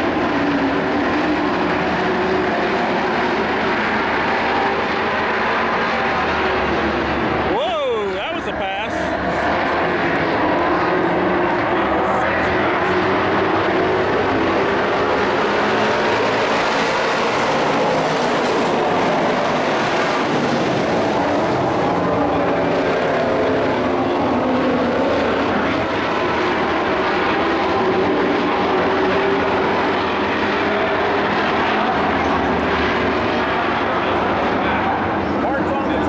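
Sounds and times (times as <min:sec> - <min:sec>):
racing truck engines droning: 0:00.0 - 0:36.0.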